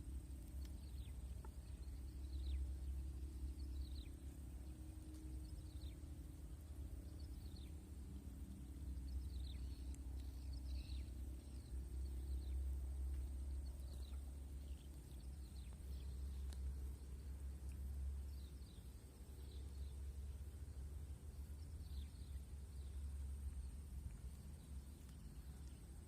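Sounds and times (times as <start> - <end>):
faint birds chirping: 0.0 - 26.0
steady low rumble: 0.0 - 26.0.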